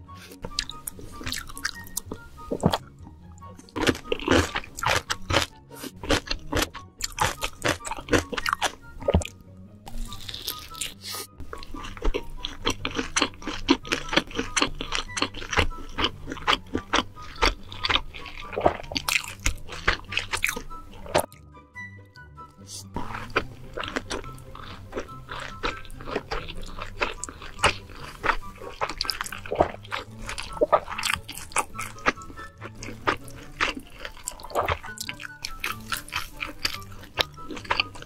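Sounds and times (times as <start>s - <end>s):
background music: 0.0s - 38.0s
crunching and chewing food: 0.2s - 21.4s, 22.9s - 38.0s.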